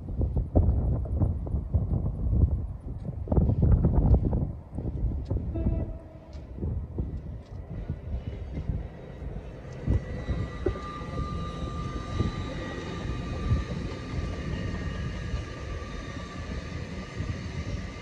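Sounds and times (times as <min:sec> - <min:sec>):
wheels rumbling on rail: 0:00.0 - 0:18.0
steady whine: 0:03.4 - 0:18.0.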